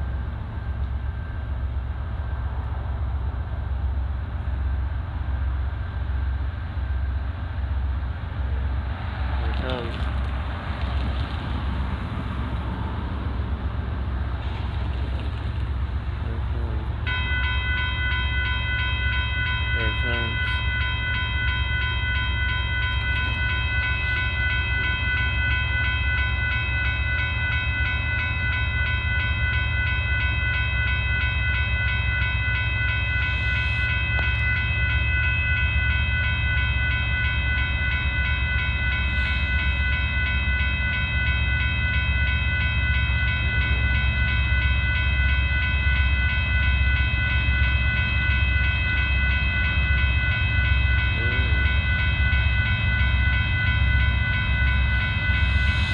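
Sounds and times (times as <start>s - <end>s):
crossing warning bell ringing: 0.0s - 55.9s
train rumble: 0.0s - 55.9s.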